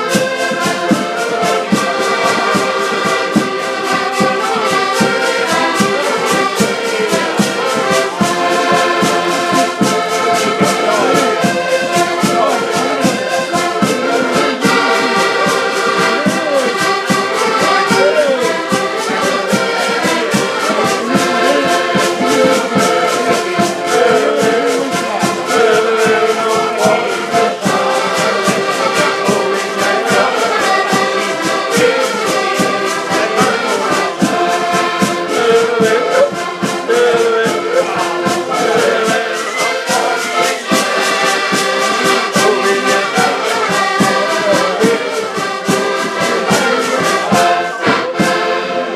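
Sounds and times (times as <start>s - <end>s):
button accordions playing a lively tune: 0.0s - 48.9s.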